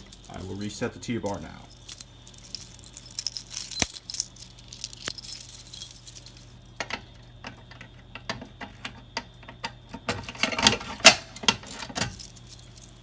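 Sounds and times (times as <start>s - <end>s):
keys jangling: 0.0s - 7.4s, 9.9s - 13.0s.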